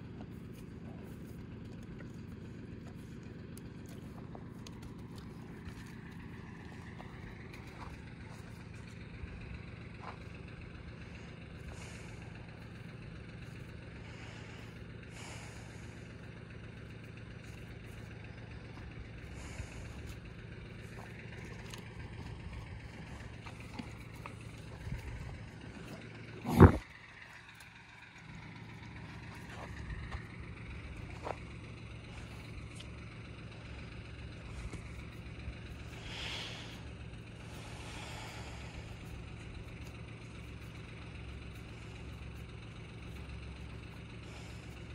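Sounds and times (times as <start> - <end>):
low outdoor rumble: 0.0 - 44.9.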